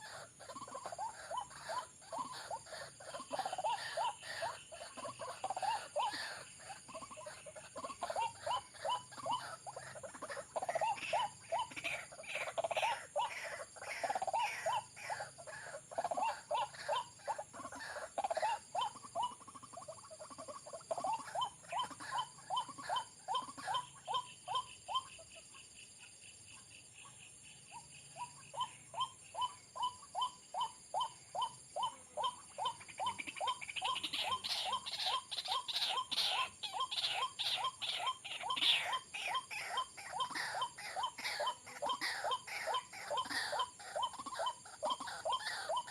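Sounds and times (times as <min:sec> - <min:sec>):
bird calling repeatedly: 0:00.0 - 0:45.9.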